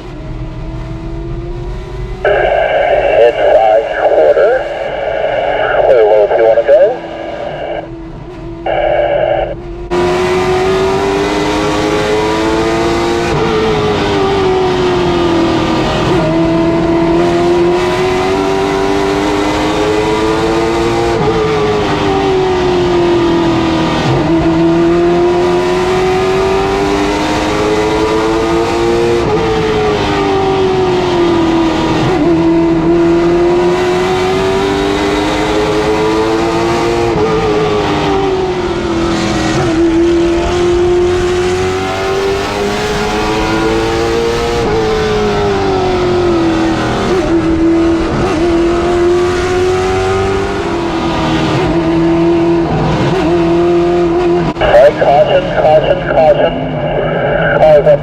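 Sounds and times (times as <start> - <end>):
race car engine at speed: 0.0 - 58.0.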